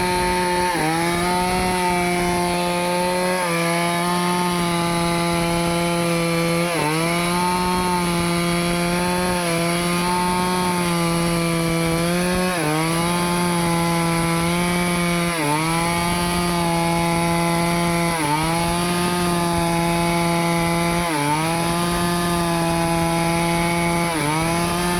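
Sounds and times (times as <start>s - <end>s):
chainsaw cutting wood: 0.0s - 24.9s.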